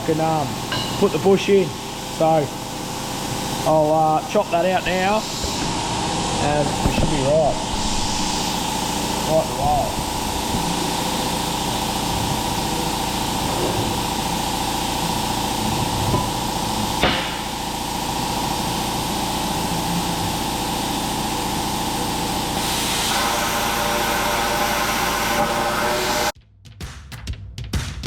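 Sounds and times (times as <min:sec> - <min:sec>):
plasma cutter hissing and buzzing: 0:03.0 - 0:26.4.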